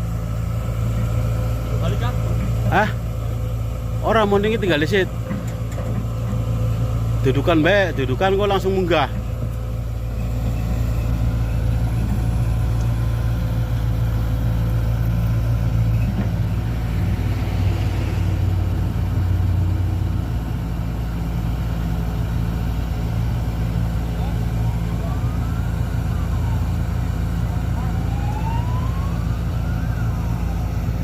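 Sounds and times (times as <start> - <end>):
large diesel engine running: 0.0 - 31.0.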